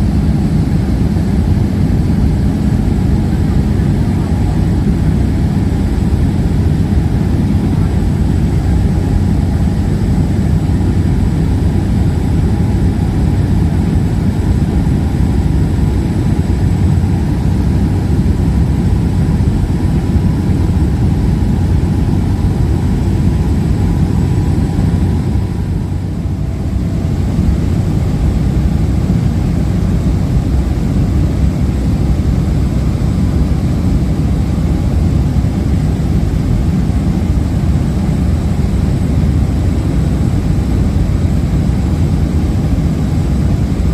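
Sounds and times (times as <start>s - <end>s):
aircraft engines rumbling: 0.0s - 43.9s.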